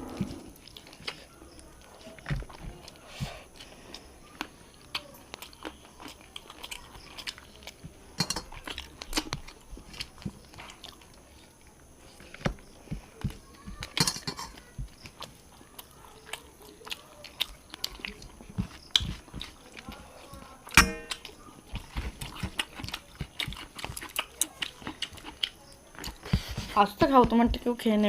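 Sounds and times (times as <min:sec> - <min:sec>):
chewing and mouth smacks: 0:00.2 - 0:26.8.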